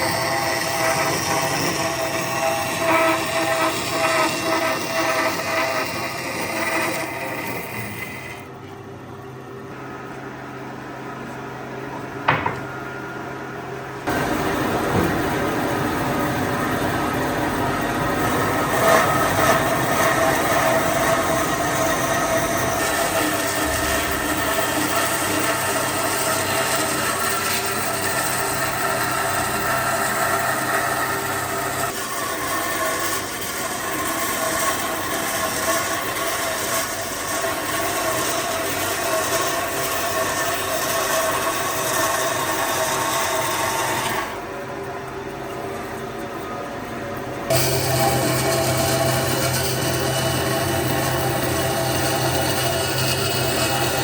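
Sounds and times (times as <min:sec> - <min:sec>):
workshop machinery drone: 0:00.0 - 0:54.0.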